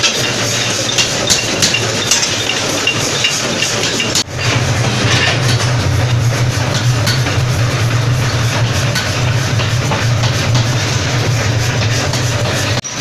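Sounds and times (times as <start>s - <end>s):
low machine hum: 0.0s - 13.0s
machinery running: 0.0s - 13.0s.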